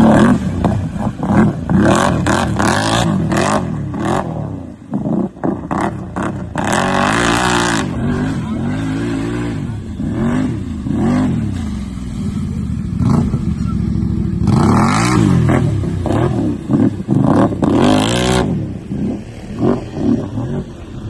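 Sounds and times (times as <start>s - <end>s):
rushes of noise: 0.0s - 21.0s
vehicle engine revving: 0.0s - 21.0s.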